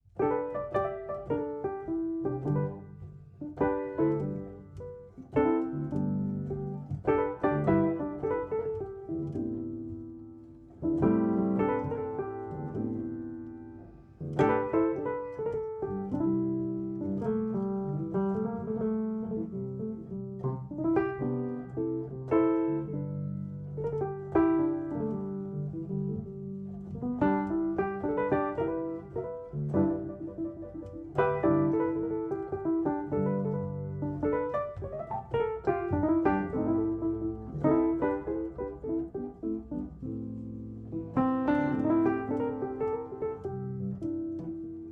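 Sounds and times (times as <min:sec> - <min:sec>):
piano playing chords: 0:00.0 - 0:44.9.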